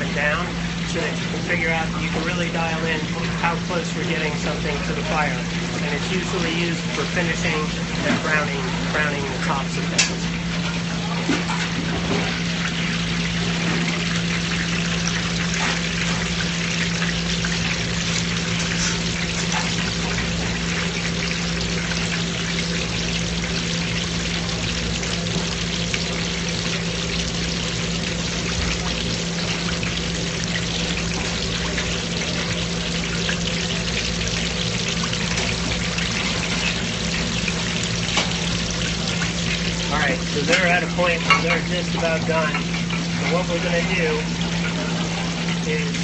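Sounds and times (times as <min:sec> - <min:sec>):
oil bubbling and crackling: 0:00.0 - 0:46.0.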